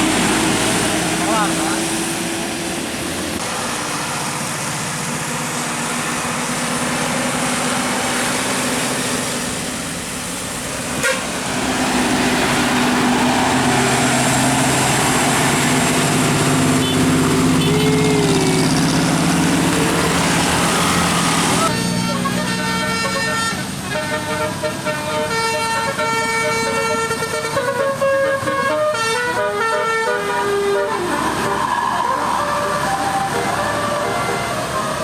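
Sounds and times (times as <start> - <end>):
bus engine running: 0.0 - 35.0
street noise: 0.0 - 35.0.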